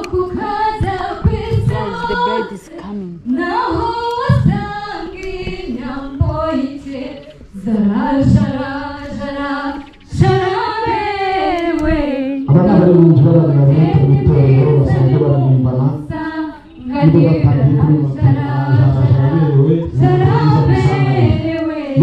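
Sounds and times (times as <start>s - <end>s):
low thumps: 0.0s - 2.5s, 3.2s - 22.0s
women singing together: 0.0s - 22.0s.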